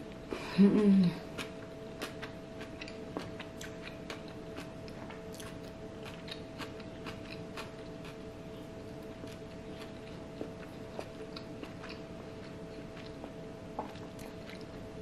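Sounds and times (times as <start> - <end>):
faint steady hum: 0.0 - 15.0
person chewing crunchy food: 1.2 - 15.0.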